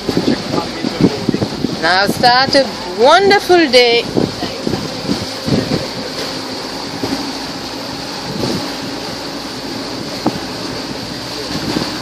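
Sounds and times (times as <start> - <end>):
outboard motors running: 0.0 - 12.0
water rushing: 0.0 - 12.0
wind on microphone: 0.0 - 12.0.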